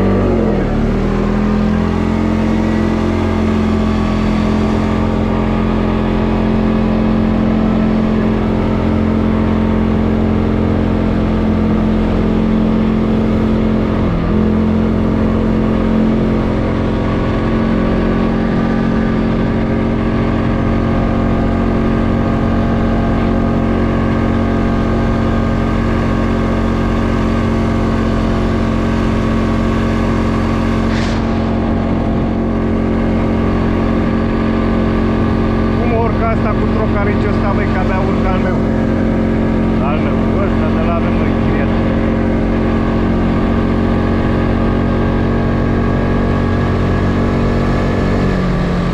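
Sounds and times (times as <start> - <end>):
quad bike engine droning: 0.0 - 48.9.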